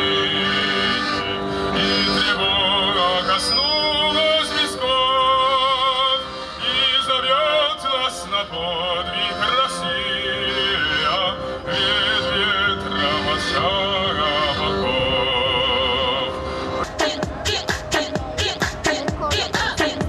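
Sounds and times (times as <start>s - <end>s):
accordion chords: 0.0s - 20.0s
man singing operatically: 0.0s - 20.0s.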